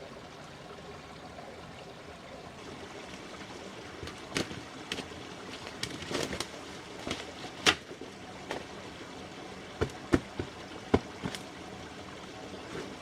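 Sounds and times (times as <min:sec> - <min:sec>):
stream running: 0:00.0 - 0:13.0.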